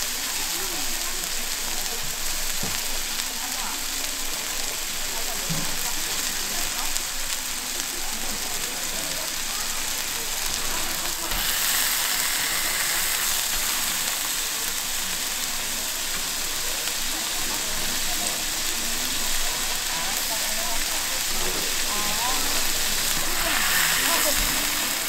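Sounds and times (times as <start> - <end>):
steak sizzling: 0.0 - 25.0.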